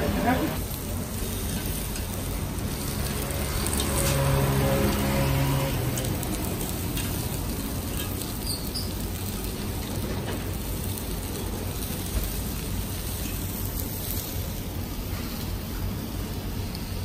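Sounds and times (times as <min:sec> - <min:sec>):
meat sizzling on grill: 0:00.0 - 0:17.0.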